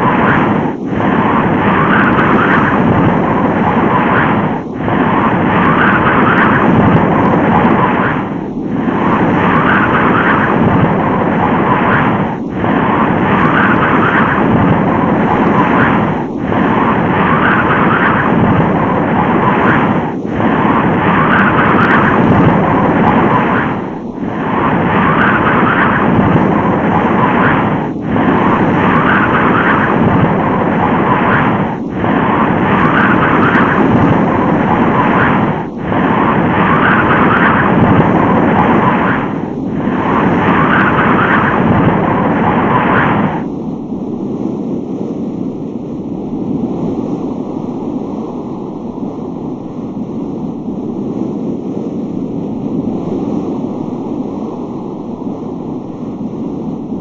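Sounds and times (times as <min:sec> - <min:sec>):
roaring storm wind: 0:00.0 - 0:57.0
softer duller wind: 0:00.0 - 0:57.0.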